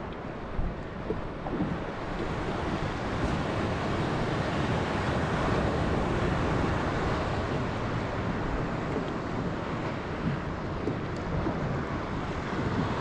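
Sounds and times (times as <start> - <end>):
ocean waves washing: 0.0 - 13.0
wind buffeting microphone: 0.0 - 13.0.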